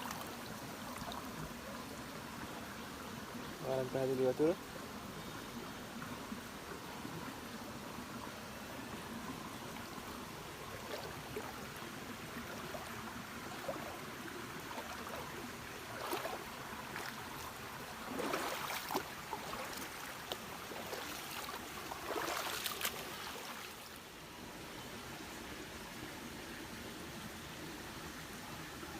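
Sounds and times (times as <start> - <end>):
river water flowing over stones: 0.0 - 28.9
water swishes: 0.0 - 28.9.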